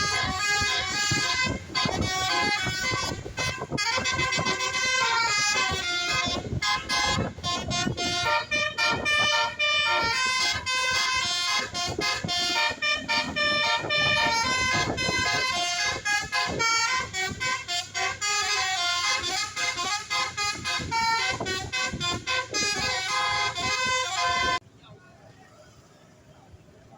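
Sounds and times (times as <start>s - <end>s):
multi-tone bus air horn tune: 0.0s - 24.6s.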